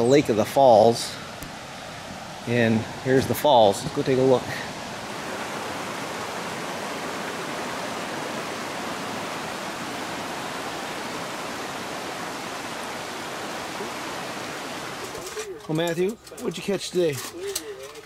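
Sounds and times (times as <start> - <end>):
river water rushing over rocks: 0.4 - 15.4.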